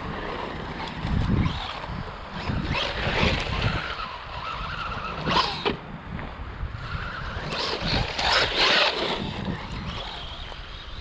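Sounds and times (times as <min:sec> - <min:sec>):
tyres skidding: 0:00.0 - 0:11.0
wind rumbling on microphone: 0:00.0 - 0:11.0
toy car motor whining: 0:00.2 - 0:05.8, 0:06.7 - 0:11.0.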